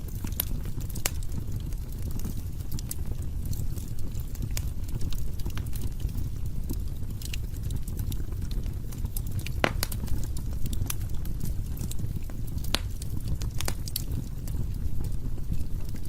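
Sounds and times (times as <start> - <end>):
fire crackling and popping: 0.0 - 16.0
fire rumbling in fireplace: 0.0 - 16.0.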